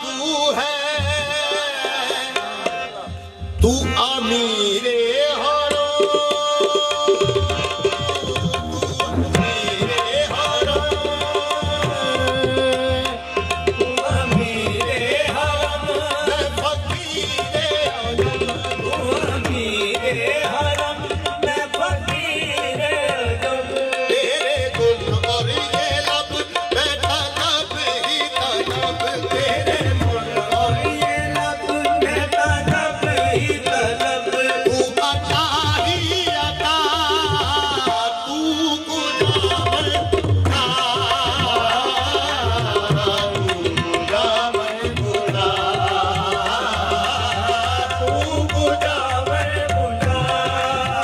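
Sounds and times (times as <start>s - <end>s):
harmonium: 0.0s - 51.0s
men singing: 0.0s - 51.0s
tabla drums: 0.0s - 51.0s.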